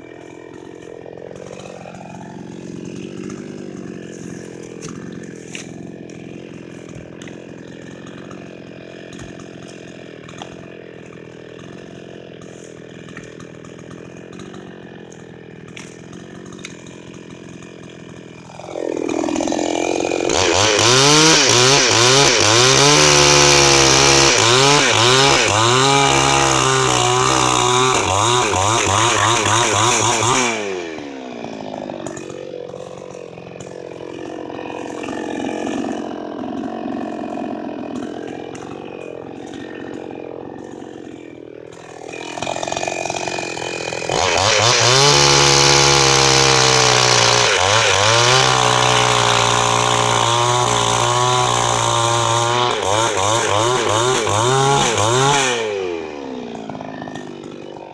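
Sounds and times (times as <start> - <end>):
chainsaw revving: 0.0 - 57.9.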